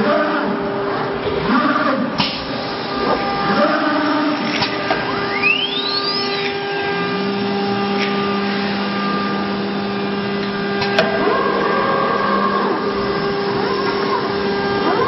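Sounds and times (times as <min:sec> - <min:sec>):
router spindle motor whine: 0:01.4 - 0:15.0.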